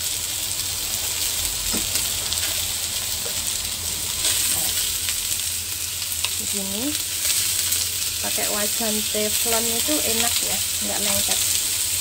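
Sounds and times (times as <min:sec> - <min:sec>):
chicken wings sizzling in a wok: 0:00.0 - 0:12.0.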